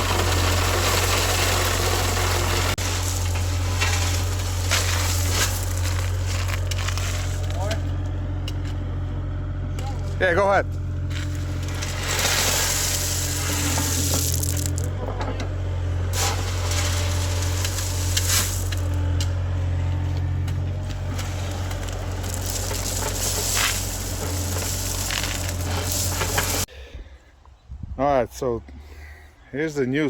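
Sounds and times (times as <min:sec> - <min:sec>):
gravel crunching and scraping: 0:00.0 - 0:26.7
heavy machine engine humming: 0:00.0 - 0:26.7.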